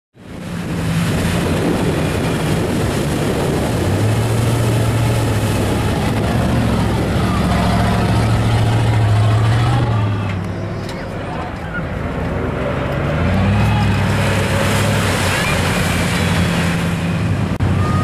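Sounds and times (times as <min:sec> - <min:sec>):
truck engine running loudly: 0:00.2 - 0:18.0.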